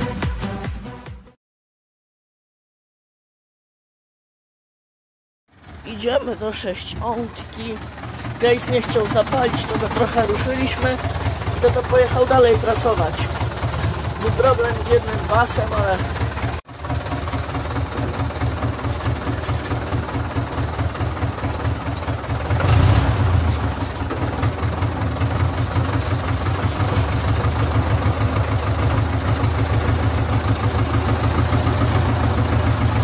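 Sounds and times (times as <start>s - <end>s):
tractor diesel engine running: 5.5s - 33.0s.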